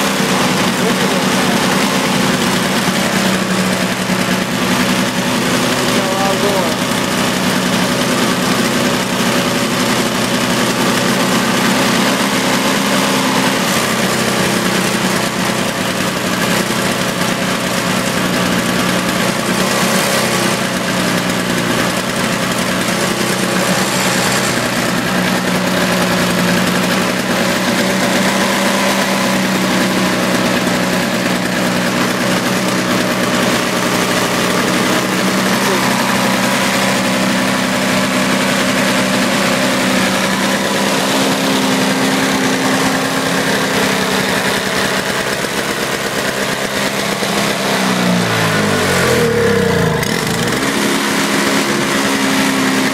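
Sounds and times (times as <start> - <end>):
snowblower engine running: 0.0 - 52.9.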